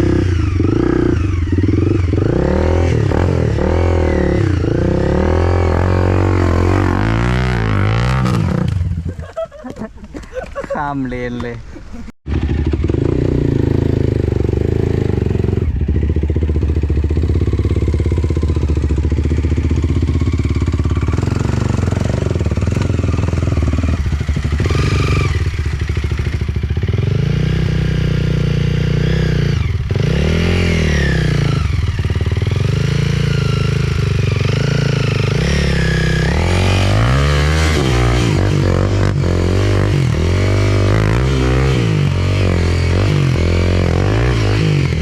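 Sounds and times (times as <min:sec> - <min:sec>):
dirt bike engine revving: 0:00.0 - 0:09.2, 0:12.3 - 0:45.0.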